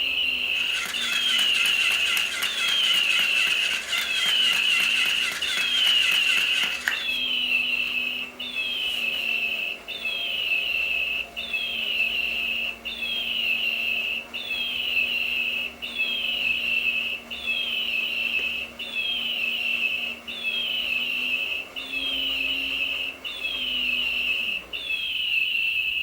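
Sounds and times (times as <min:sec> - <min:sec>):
electronic toy bird chirp: 0:00.0 - 0:26.0.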